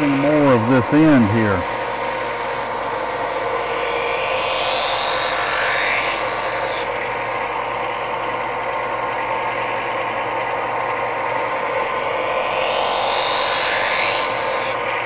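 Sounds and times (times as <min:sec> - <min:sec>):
belt sander motor running: 0:00.0 - 0:15.0.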